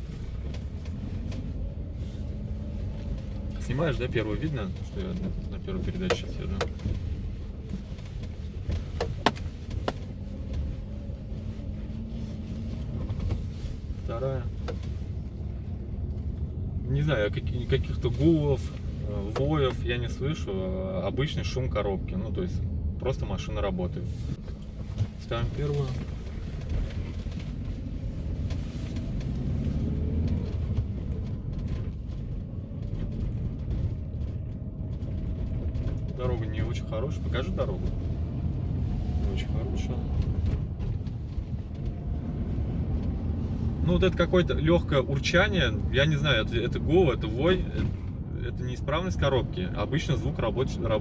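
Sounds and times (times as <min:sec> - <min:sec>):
car engine droning in cabin: 0:00.0 - 0:51.0.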